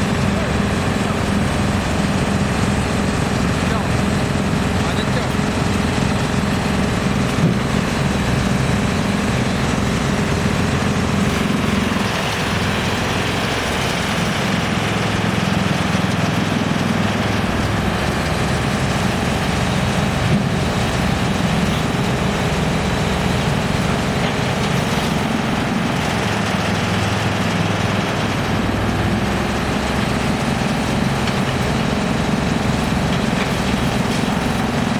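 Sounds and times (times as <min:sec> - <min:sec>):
diesel engine running: 0:00.0 - 0:34.9
wood chipper running: 0:00.0 - 0:34.9.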